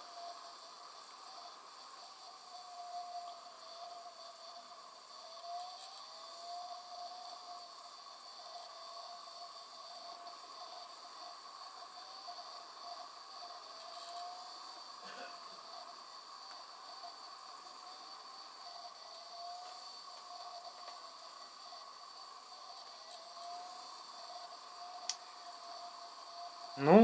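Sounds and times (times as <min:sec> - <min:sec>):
disc drive motor whine: 0:00.0 - 0:27.0.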